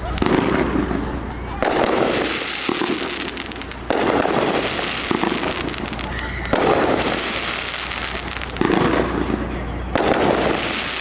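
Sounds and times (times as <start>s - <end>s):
dense firework crackling: 0.0s - 11.0s
fireworks bursting: 0.0s - 11.0s.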